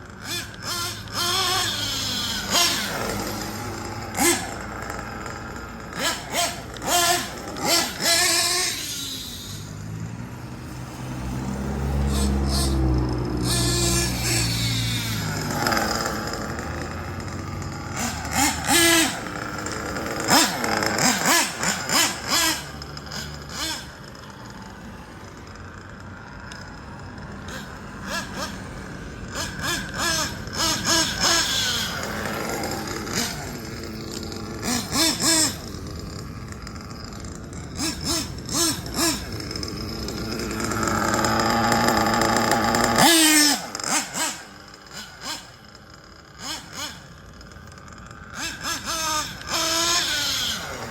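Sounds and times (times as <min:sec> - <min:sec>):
rc truck engine revving: 0:00.0 - 0:50.9.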